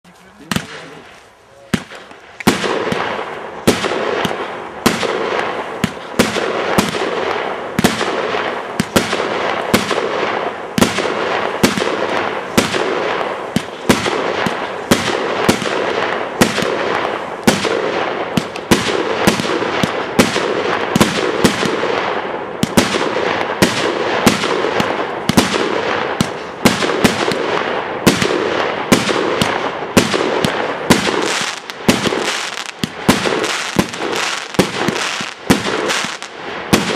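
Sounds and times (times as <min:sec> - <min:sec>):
fireworks crackling: 0:00.0 - 0:36.9
fireworks bangs: 0:00.1 - 0:36.9.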